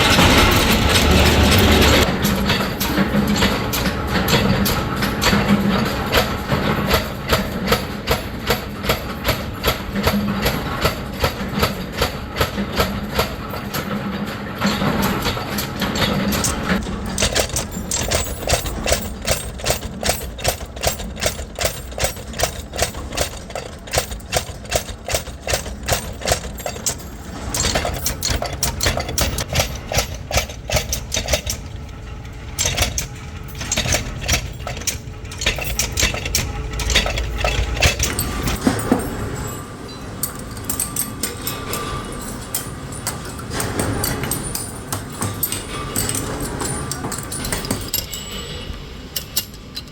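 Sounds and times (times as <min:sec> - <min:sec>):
machine hum: 0:00.0 - 0:06.5, 0:16.0 - 0:49.9
machinery striking metal: 0:00.0 - 0:13.3, 0:15.9 - 0:49.9
metal clanks and knocks: 0:00.0 - 0:49.9.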